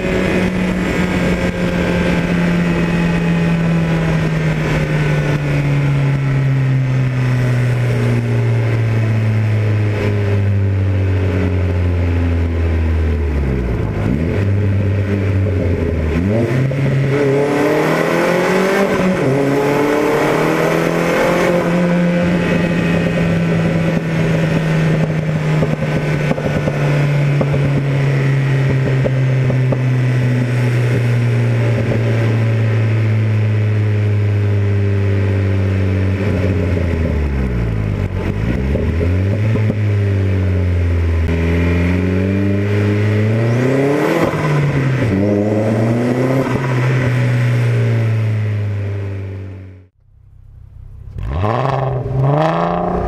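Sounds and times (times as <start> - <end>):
turbocharged car engine: 0.0 - 53.0.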